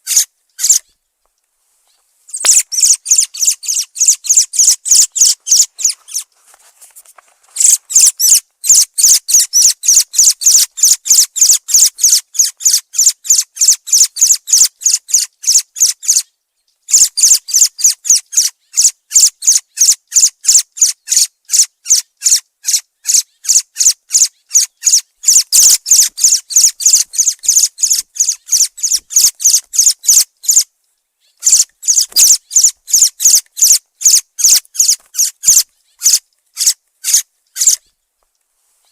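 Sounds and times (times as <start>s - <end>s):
thrush calling: 0.0s - 0.8s, 2.3s - 6.3s, 7.6s - 16.2s, 16.9s - 30.7s, 31.3s - 37.9s.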